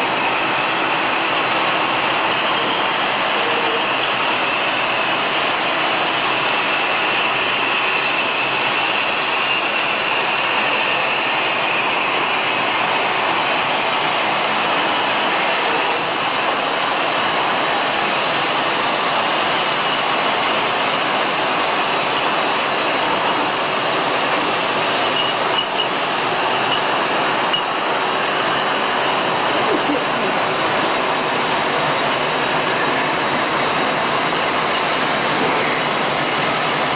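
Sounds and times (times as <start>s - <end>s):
bottle washing machine running: 0.0s - 36.9s.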